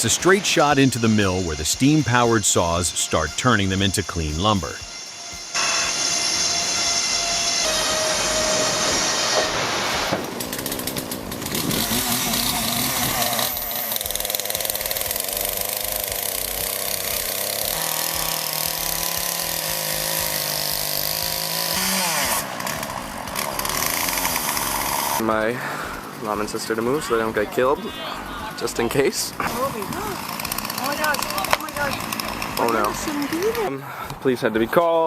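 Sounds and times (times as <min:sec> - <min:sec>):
power saws cutting wood: 0:00.0 - 0:35.0.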